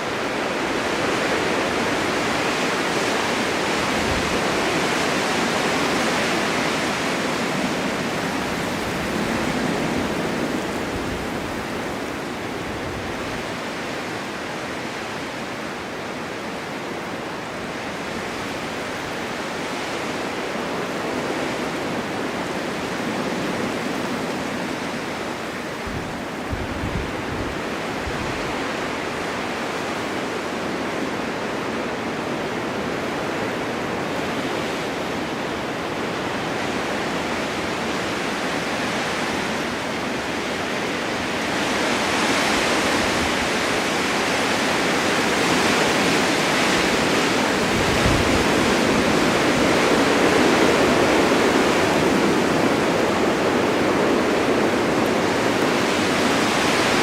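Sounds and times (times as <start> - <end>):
blizzard wind blowing: 0.0 - 57.0
low wind buffets: 0.0 - 57.0.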